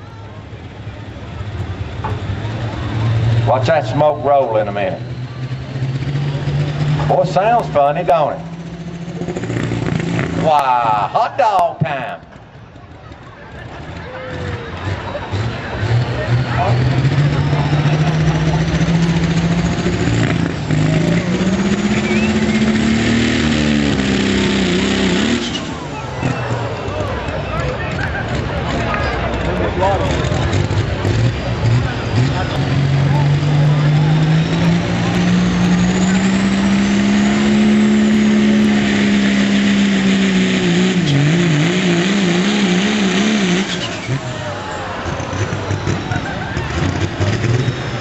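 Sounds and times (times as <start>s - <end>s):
diesel engine under load: 0.0s - 48.0s.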